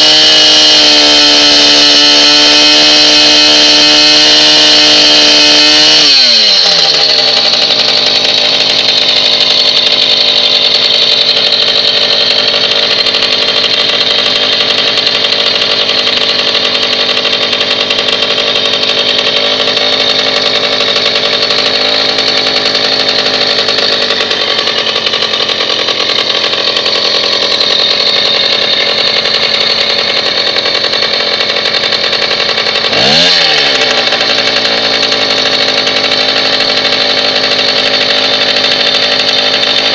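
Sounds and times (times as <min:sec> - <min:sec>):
moped engine revving: 0:00.0 - 0:39.9.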